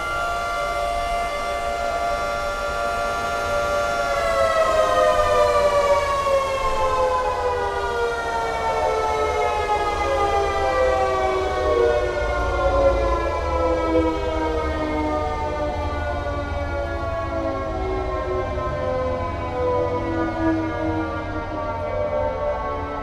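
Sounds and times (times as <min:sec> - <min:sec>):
air raid siren winding down: 0:00.0 - 0:23.0.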